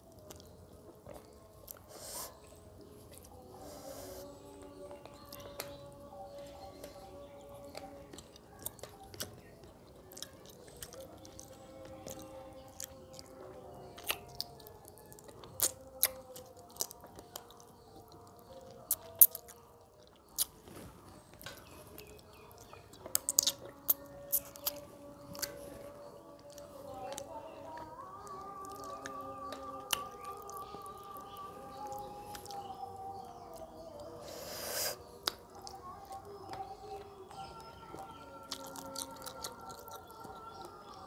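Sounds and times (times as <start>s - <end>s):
soft background music: 0.0s - 41.0s
person chewing: 0.1s - 5.8s, 7.6s - 32.7s, 33.4s - 36.6s, 37.9s - 41.0s.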